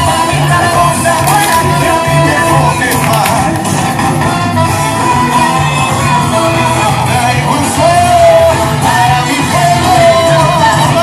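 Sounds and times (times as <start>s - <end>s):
song with singing voice: 0.0s - 11.0s.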